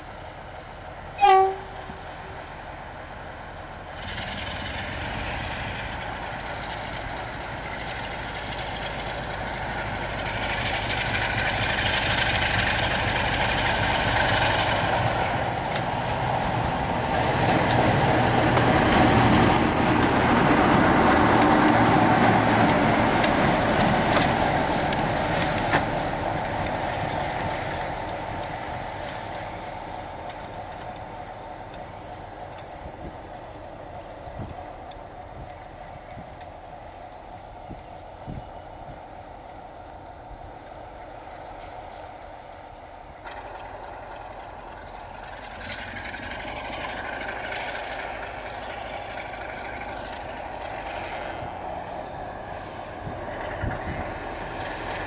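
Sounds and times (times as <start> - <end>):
diesel locomotive engine passing: 0.0 - 55.0.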